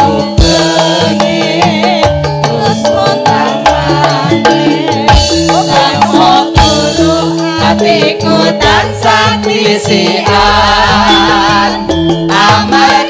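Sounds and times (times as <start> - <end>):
drums keeping a steady beat: 0.0 - 13.0
electric keyboard: 0.0 - 13.0
person singing with wavering voice: 0.0 - 13.0.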